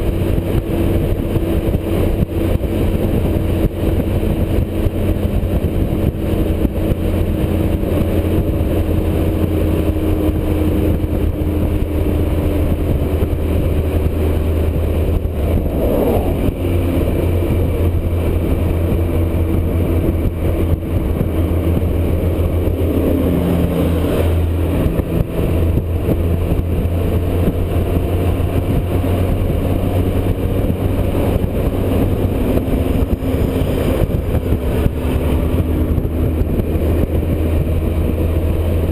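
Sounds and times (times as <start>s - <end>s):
heavy wind noise: 0.0s - 38.9s
motorcycle engine cruising: 0.0s - 38.9s.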